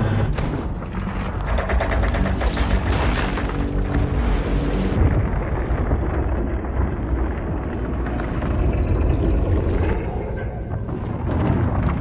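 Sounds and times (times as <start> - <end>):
heavy low rumble: 0.0 - 12.0.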